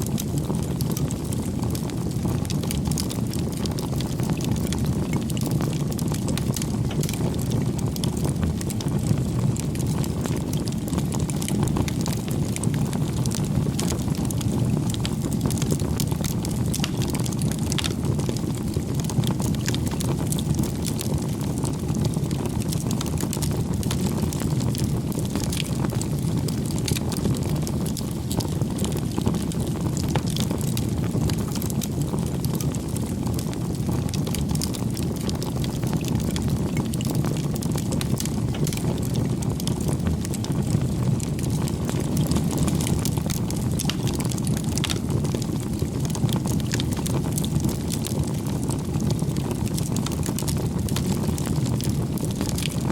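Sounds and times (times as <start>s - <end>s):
campfire flame rushing: 0.0s - 52.9s
wood crackling and popping: 0.0s - 52.9s.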